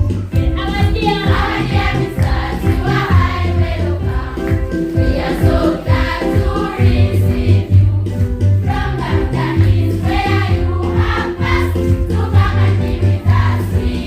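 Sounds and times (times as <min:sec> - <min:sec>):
choir singing: 0:01.3 - 0:07.9, 0:08.6 - 0:14.0.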